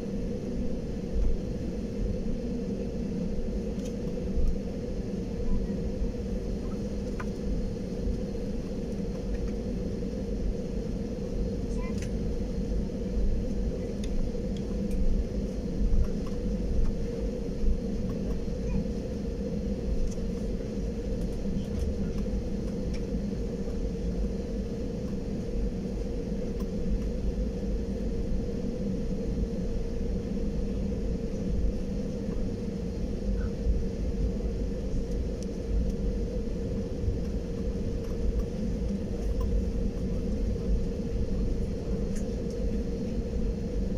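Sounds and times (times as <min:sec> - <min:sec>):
constant hum: 0:00.0 - 0:43.9
jet engines rumbling: 0:00.0 - 0:43.9.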